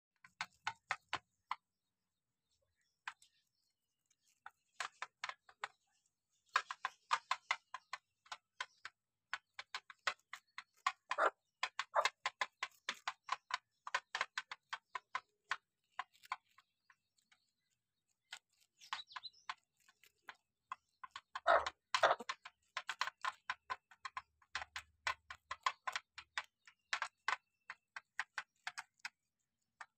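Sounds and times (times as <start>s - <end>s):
rabbits crunching cauliflower: 0.2s - 1.5s, 2.8s - 29.9s.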